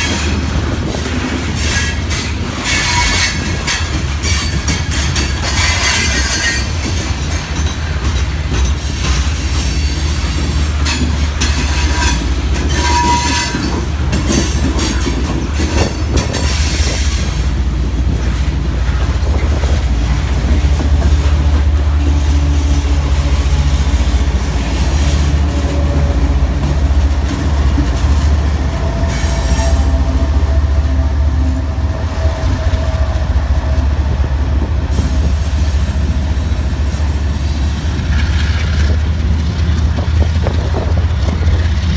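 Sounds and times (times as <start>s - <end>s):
train wheel flanges squealing: 0.0s - 39.2s
diesel locomotive engine drone: 0.0s - 41.9s
rumbling train wheels: 0.0s - 41.9s.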